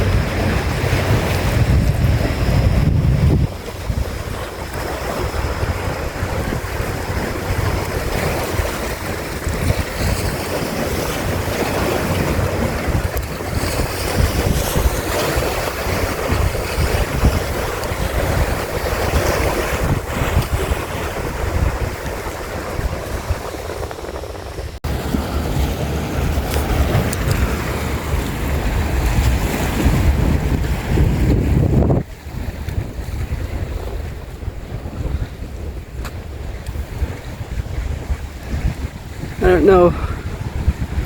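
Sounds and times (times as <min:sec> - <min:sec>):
waves breaking and washing: 0:00.0 - 0:41.0
wind buffeting microphone: 0:00.0 - 0:41.0.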